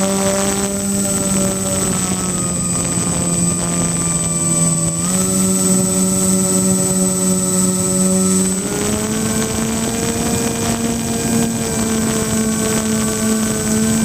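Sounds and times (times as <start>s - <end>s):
electric motors and propellers droning: 0.0s - 14.0s.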